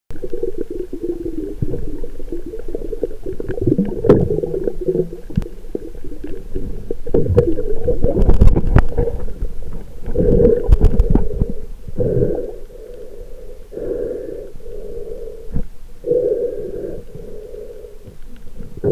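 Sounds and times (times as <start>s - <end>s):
underwater rumbling and gurgling: 0.1s - 18.9s.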